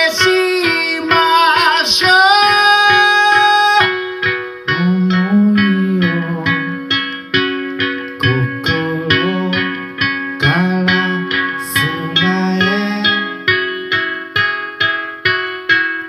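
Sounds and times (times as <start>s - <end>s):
guitar picking notes: 0.0s - 16.0s
sliding low melody: 0.0s - 16.0s.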